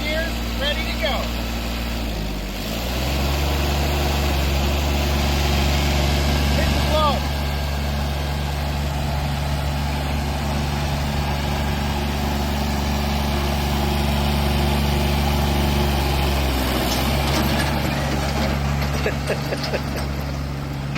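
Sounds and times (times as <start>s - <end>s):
tractor diesel engine idling: 0.0s - 20.9s.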